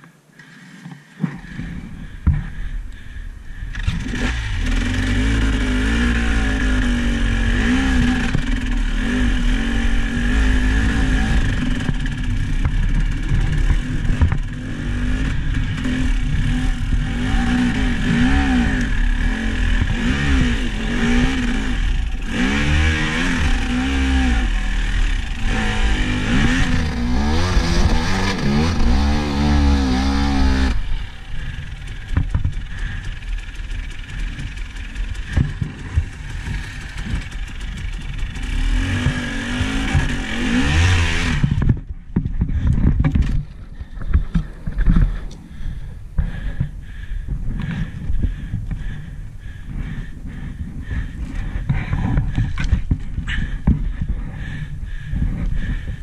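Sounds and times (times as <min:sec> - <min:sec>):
vehicle engine revving: 0:01.4 - 0:55.9.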